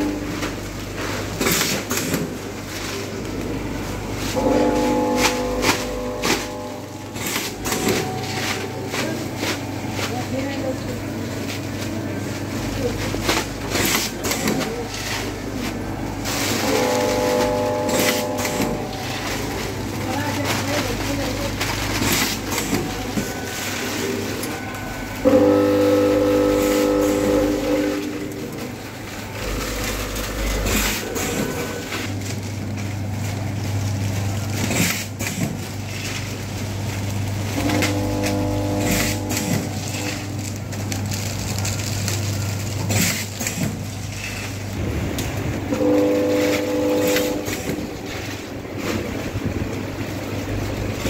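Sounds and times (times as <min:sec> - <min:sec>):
loud multi-tone hum: 0:00.0 - 0:51.0
packaging machine running: 0:00.0 - 0:51.0
plastic rustling: 0:00.0 - 0:51.0.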